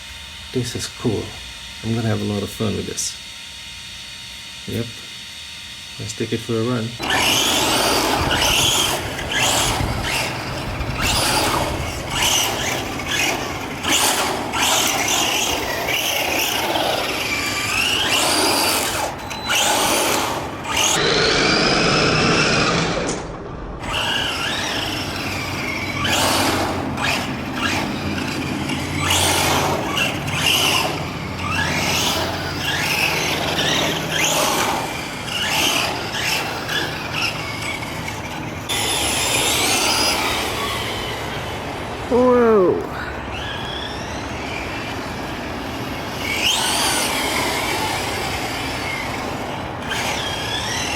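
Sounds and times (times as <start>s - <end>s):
electric motor whine: 0.0s - 50.9s.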